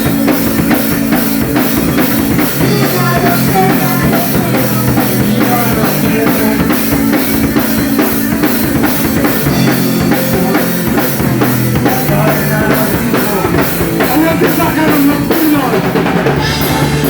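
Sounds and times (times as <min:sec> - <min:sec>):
drum kit beat: 0:00.0 - 0:17.0
rock band playing: 0:00.0 - 0:17.0.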